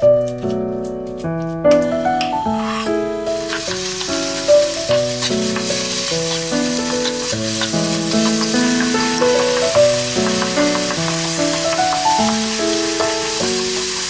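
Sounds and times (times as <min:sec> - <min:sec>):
wooden spatula stirring: 0:02.2 - 0:14.0
tofu sizzling in a frying pan: 0:02.7 - 0:14.0.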